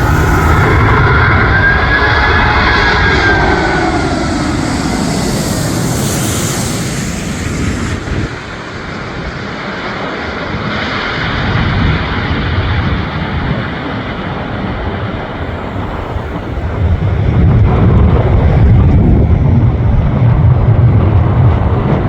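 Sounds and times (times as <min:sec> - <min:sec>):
high engine whine: 0:00.0 - 0:22.0
jet engines passing: 0:00.0 - 0:22.0
loud jet rush: 0:00.0 - 0:22.0.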